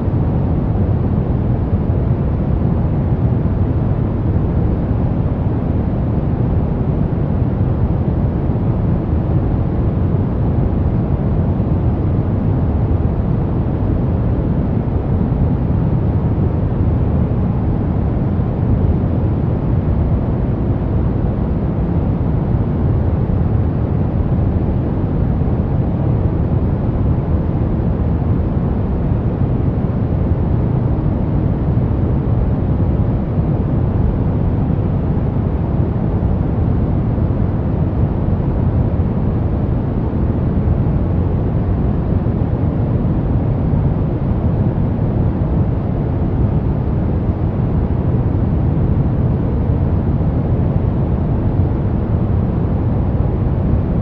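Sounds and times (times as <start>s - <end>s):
brown noise: 0.0s - 54.0s.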